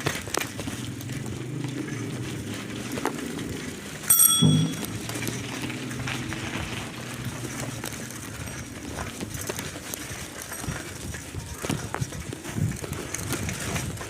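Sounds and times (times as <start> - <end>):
bicycle rattling and clicking: 0.0 - 14.0.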